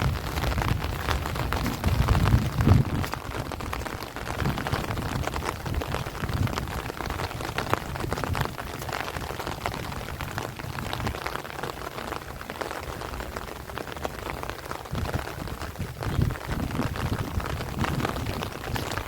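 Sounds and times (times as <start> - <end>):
heavy rain on plants and trees: 0.0 - 19.0
strong wind gusts rumbling: 0.0 - 19.0.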